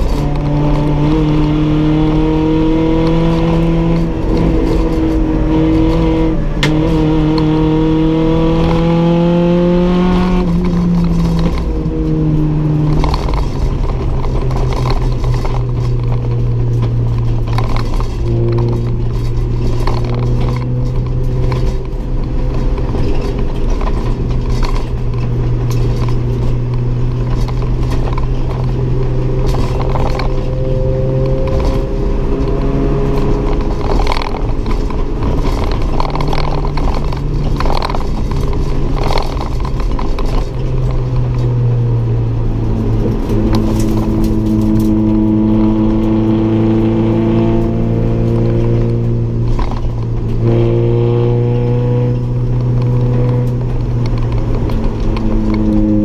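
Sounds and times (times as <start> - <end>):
racing engine revving: 0.0 - 56.0
road noise: 0.0 - 56.0.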